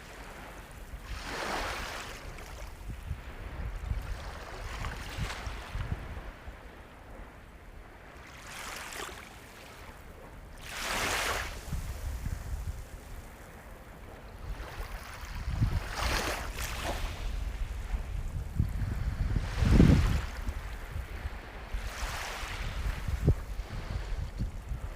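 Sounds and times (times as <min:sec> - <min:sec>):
ocean waves breaking: 0:00.0 - 0:03.5, 0:07.9 - 0:24.9.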